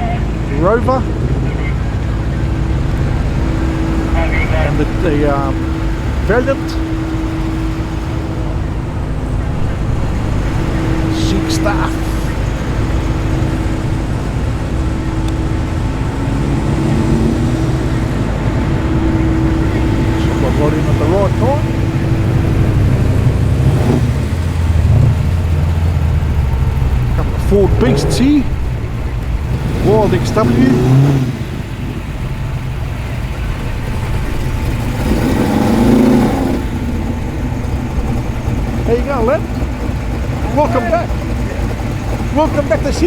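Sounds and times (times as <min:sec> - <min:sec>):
car engine running low speed: 0:00.0 - 0:43.0.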